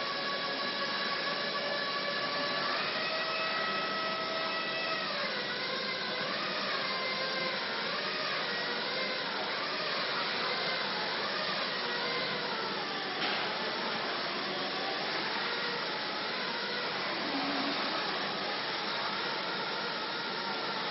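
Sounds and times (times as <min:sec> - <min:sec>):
electric motors whining: 0:00.0 - 0:20.9.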